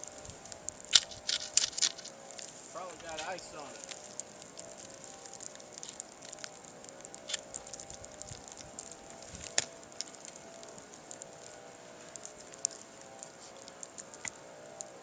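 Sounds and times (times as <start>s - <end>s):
ice clicking and crackling: 0.0s - 15.0s
steady hiss: 0.0s - 15.0s.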